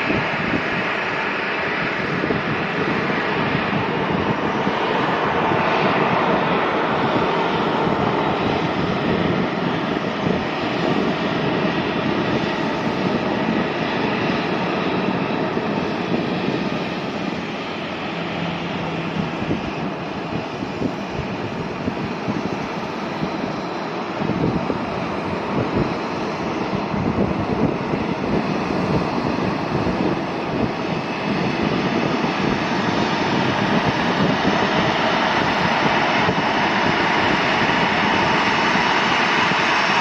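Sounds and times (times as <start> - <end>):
jet engines rushing: 0.0 - 40.0.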